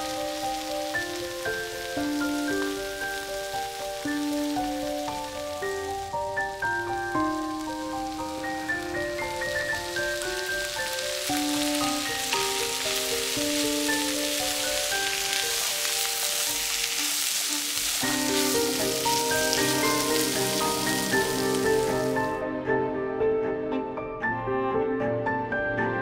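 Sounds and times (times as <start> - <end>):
vegetables sizzling in frying pan: 0.0 - 22.4
gentle background music: 0.0 - 26.0.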